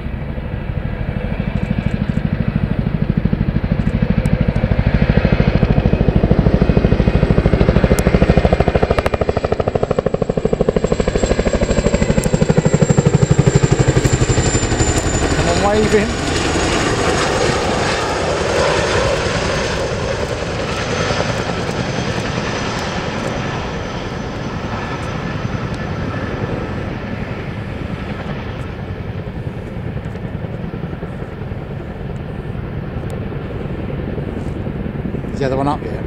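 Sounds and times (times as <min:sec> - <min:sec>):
helicopter rotor beat: 0:00.0 - 0:36.0
high turbine whine: 0:00.0 - 0:36.0.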